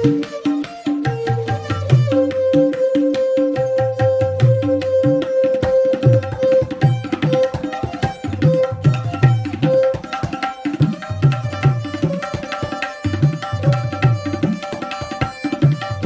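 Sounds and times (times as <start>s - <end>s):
bowed string melody: 0.0s - 16.0s
tabla fast rhythm: 0.0s - 16.0s.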